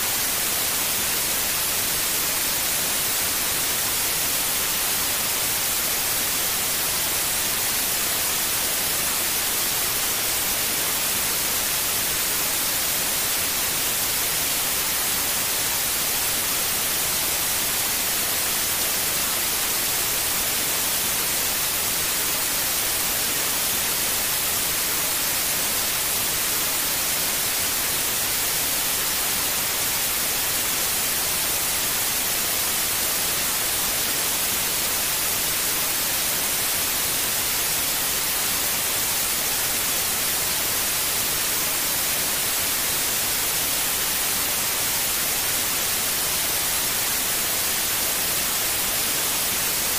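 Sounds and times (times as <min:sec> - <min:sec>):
white noise hiss: 0:00.0 - 0:49.9.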